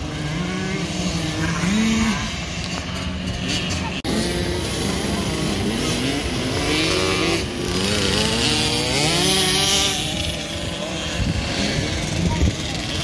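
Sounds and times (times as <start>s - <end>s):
small motocross engines revving: 0.0s - 13.0s.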